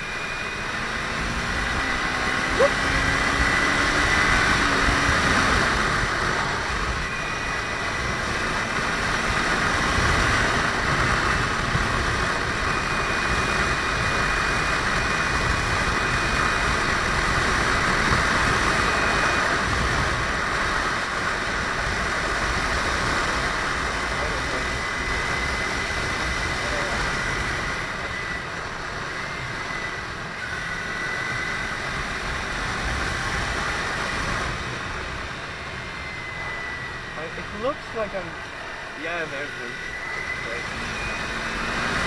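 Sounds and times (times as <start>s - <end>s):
motorcycle engine cruising: 0.0s - 42.0s
wind rush on microphone: 0.7s - 37.2s.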